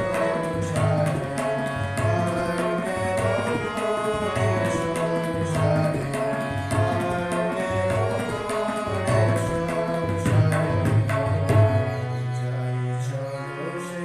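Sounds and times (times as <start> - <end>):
tabla playing rhythm: 0.0 - 12.9
harmonium notes: 0.0 - 14.0.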